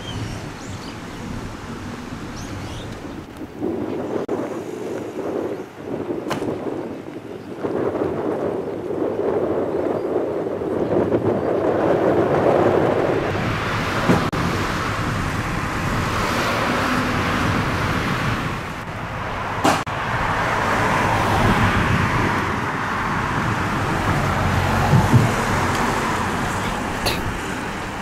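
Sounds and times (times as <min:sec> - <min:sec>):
passing cars: 0:00.0 - 0:28.0.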